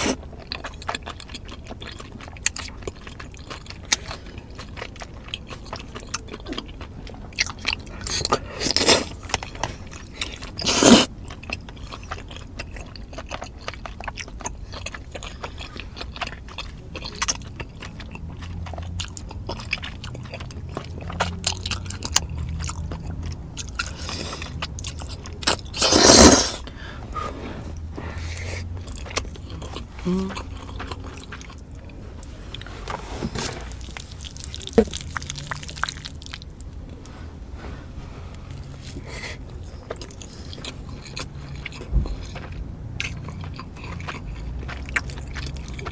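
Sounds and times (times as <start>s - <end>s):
chewing and biting: 0.0s - 37.1s, 38.4s - 45.9s.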